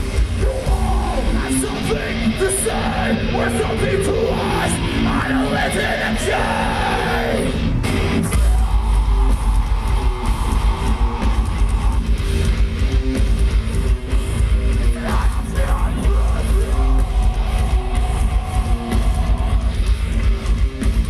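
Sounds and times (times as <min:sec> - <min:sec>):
live heavy metal band: 0:00.0 - 0:21.0.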